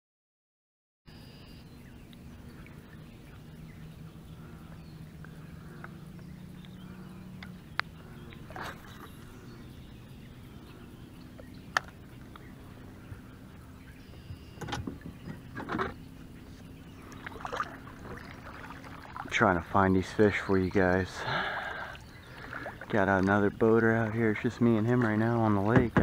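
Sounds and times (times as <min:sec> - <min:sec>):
faint bird calls: 0:01.1 - 0:24.4
low steady hum: 0:01.1 - 0:26.0.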